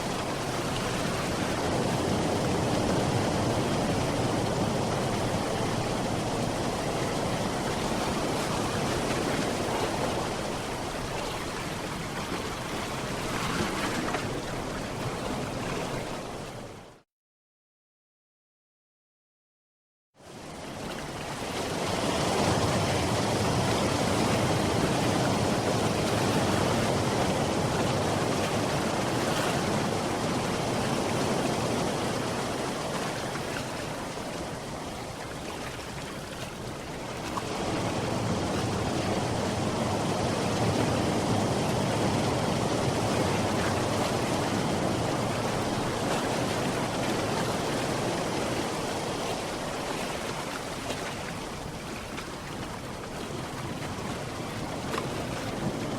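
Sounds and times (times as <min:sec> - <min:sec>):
waves breaking: 0:00.0 - 0:17.0, 0:20.3 - 0:55.9.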